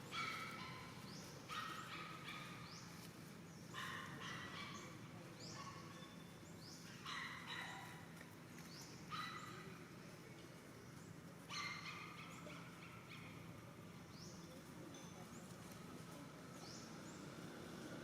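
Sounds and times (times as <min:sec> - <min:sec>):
faint outdoor background noise: 0:00.0 - 0:18.0.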